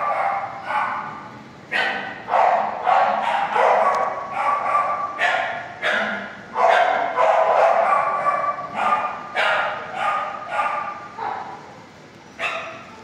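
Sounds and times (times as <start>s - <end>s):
dogs barking with echo: 0.0s - 12.9s.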